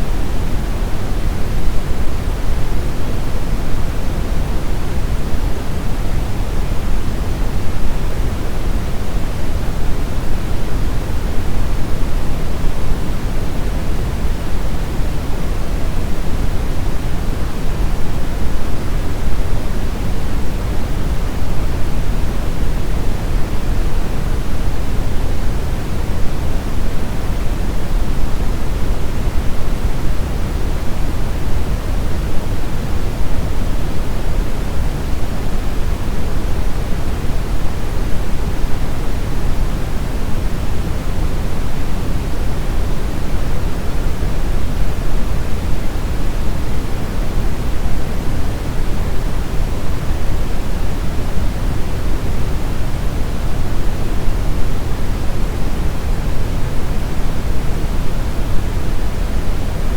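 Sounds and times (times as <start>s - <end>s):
brown noise rumbling hiss: 0.0s - 59.9s.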